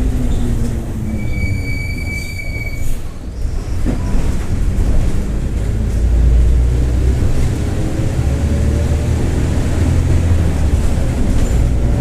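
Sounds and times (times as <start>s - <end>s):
bus diesel engine running: 0.0s - 1.6s, 2.9s - 12.0s.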